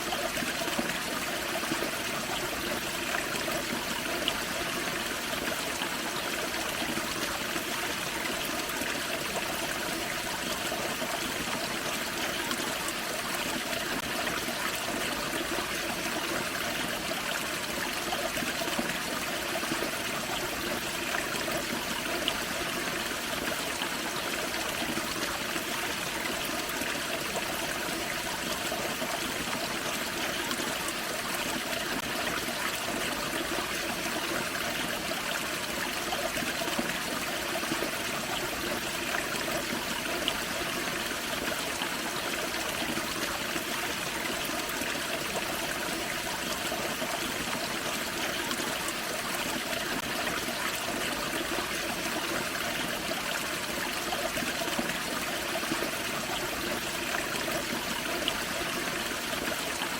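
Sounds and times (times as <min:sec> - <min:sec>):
waterfall and creek over rocks: 0:00.0 - 0:59.9.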